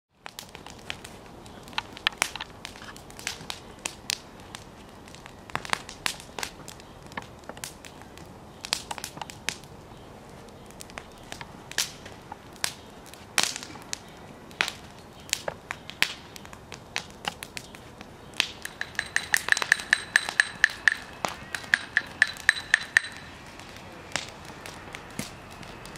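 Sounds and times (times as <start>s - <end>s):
wood fire crackling: 0.1s - 25.9s.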